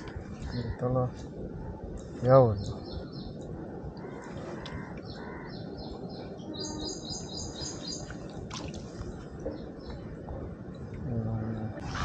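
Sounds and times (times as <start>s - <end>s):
small birds chirping: 0.0s - 10.4s
outdoor background noise: 0.0s - 12.0s.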